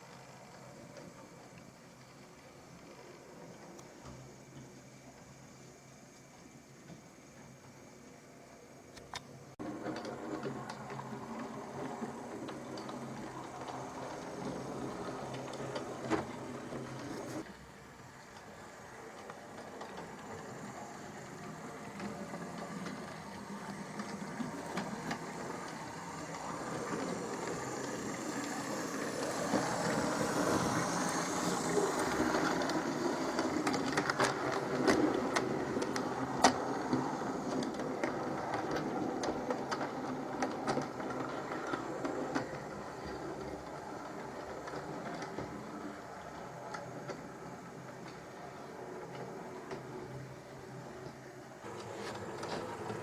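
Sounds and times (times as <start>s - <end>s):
wheels rolling on rails: 0.0s - 53.0s
model train motor whirring: 9.0s - 53.0s.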